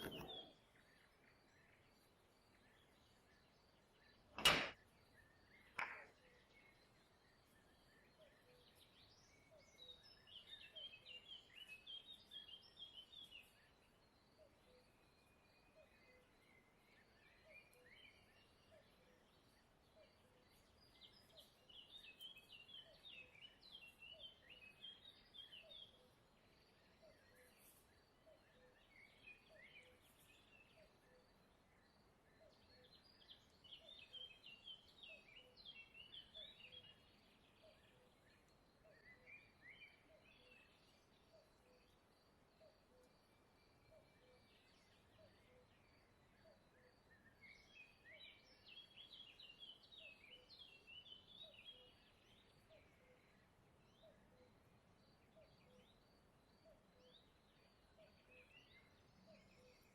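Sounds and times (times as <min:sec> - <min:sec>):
faint birdsong chirps: 0:00.0 - 0:59.9.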